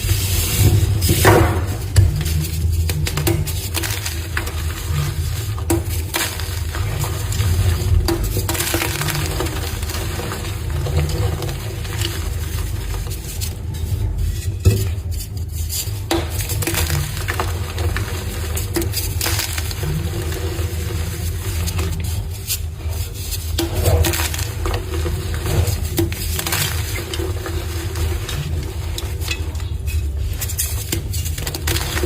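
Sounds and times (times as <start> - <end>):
chalk crunching and crackling: 0.0 - 32.0.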